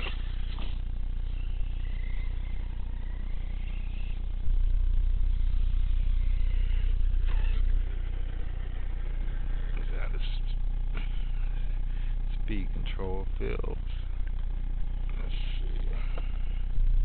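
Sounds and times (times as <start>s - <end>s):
electric motor whining: 0.0s - 17.0s
low rumble on microphone: 0.0s - 17.0s.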